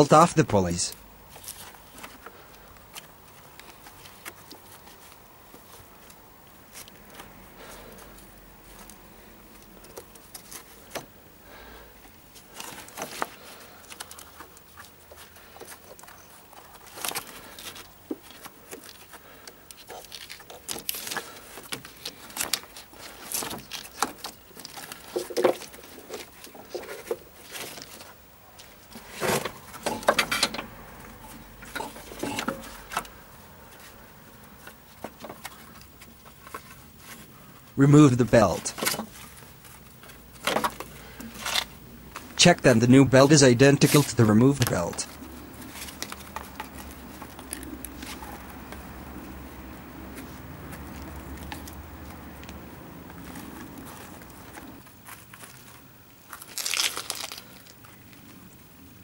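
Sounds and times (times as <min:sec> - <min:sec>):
belt handling rustles and scrapes: 0:01.2 - 0:37.8, 0:38.5 - 0:42.4, 0:44.7 - 0:58.5.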